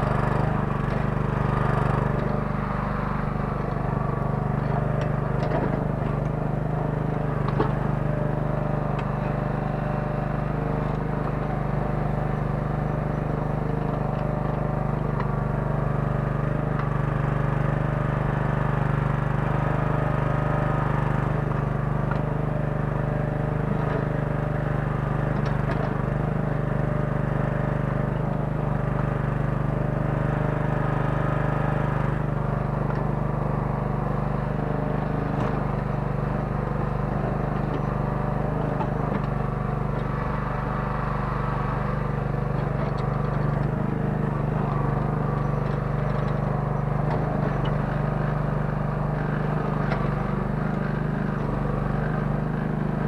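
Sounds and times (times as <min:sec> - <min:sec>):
small engine running steadily: 0:00.0 - 0:53.0.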